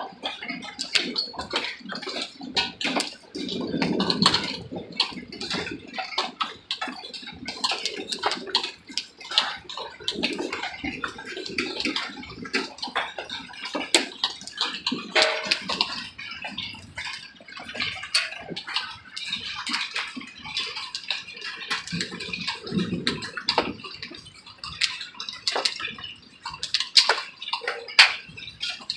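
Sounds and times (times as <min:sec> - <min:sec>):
hail pattering: 0:00.0 - 0:28.9.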